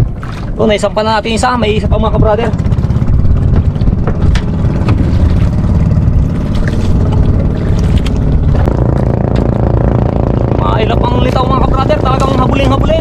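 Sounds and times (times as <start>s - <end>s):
boat engine low drone: 0.0s - 13.0s.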